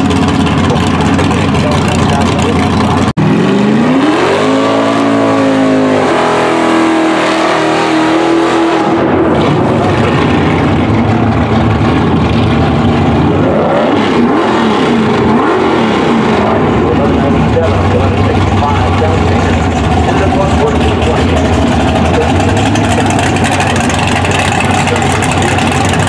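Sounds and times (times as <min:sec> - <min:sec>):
drag car engine revving: 0:00.0 - 0:26.0.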